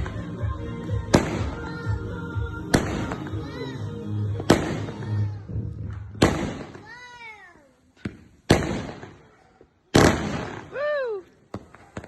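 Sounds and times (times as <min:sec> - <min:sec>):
fireworks bangs: 0:01.0 - 0:02.0, 0:02.6 - 0:03.6, 0:04.4 - 0:12.0.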